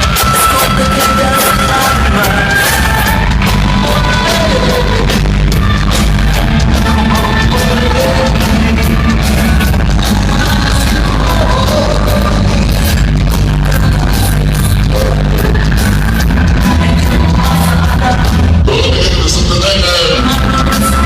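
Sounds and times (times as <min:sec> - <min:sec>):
loud dance music with vocals: 0:00.0 - 0:21.0.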